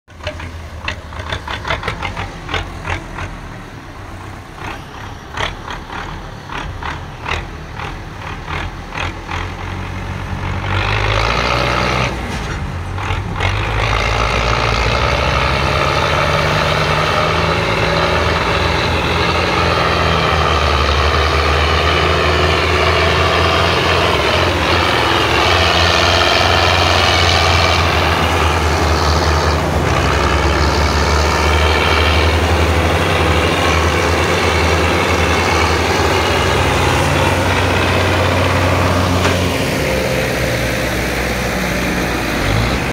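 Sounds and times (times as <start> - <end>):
tractor diesel engine labouring: 0.0 - 42.9.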